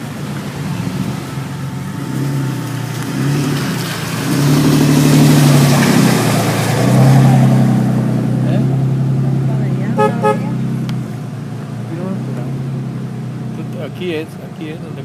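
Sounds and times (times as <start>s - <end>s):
off-road vehicle engine driving past: 0.0s - 15.0s
second off-road vehicle: 0.0s - 15.0s.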